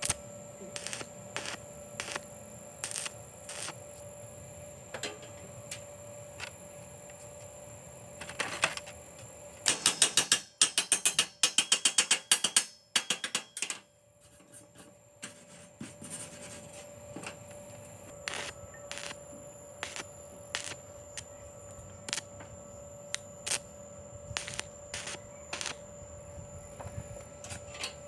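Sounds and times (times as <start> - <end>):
faint high hum: 0.0 - 10.2, 12.5 - 28.0.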